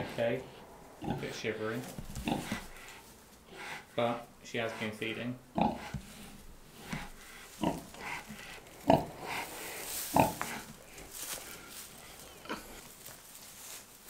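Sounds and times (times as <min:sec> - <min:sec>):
straw rustling: 0:00.0 - 0:04.0, 0:05.0 - 0:14.0
pig grunting: 0:00.0 - 0:12.9.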